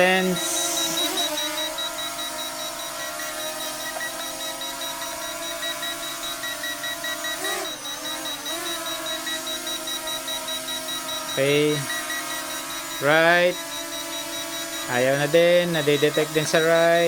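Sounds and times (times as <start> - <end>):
drone propellers humming: 0.0 - 17.0
rapid warning beeps: 0.0 - 17.0.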